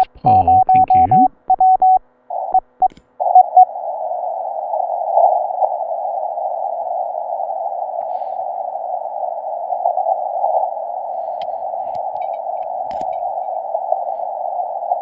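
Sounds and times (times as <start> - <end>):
static crackles: 0.0 - 15.0
radio receiver static hiss: 2.3 - 15.0.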